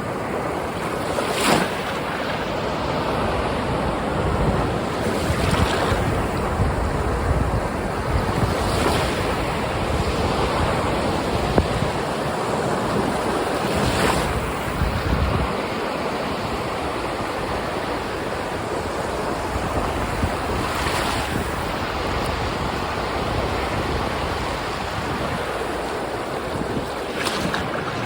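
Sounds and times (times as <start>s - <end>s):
sea waves breaking: 0.0s - 28.0s
wind buffeting microphone: 0.0s - 28.0s.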